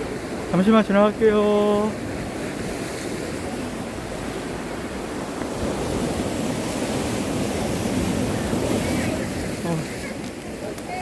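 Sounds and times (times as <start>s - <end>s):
surf on rocky shore: 0.0s - 11.0s
wind on microphone: 1.2s - 11.0s.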